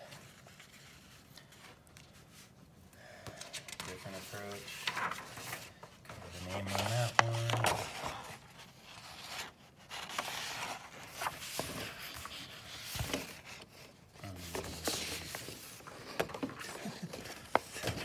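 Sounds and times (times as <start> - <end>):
paper rustling and sliding: 0.0 - 2.6, 3.4 - 18.0.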